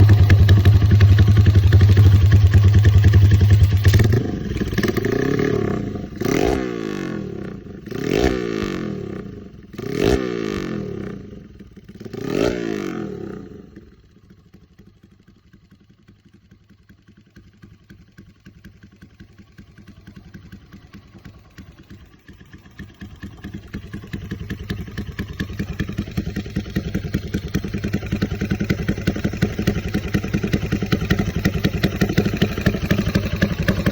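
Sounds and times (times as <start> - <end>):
motorcycle engine revving: 0.0 - 14.2, 18.6 - 33.9.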